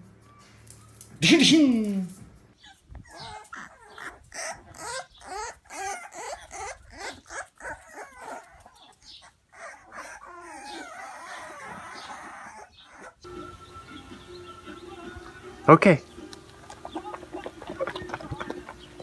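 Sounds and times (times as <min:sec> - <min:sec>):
puppies whining and squealing: 0:02.5 - 0:19.0.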